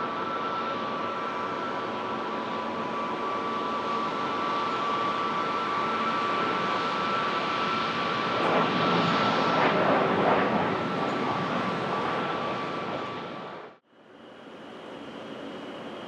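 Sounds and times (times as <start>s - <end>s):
aircraft engines roaring: 0.0s - 16.0s
high steady whine: 0.0s - 16.0s.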